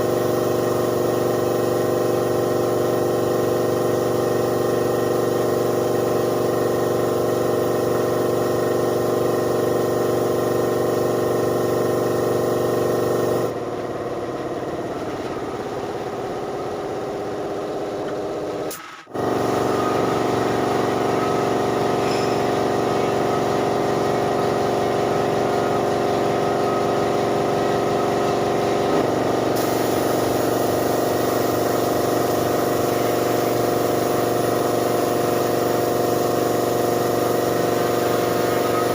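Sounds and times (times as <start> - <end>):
machine motor humming: 0.0 - 13.6, 17.2 - 38.9.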